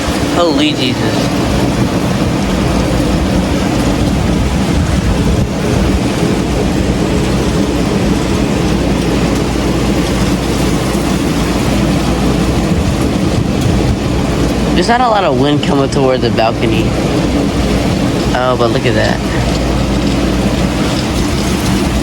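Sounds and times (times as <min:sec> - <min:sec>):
gusting wind: 0:00.0 - 0:22.0
heavy rain: 0:00.0 - 0:22.0
wind buffeting microphone: 0:00.0 - 0:22.0.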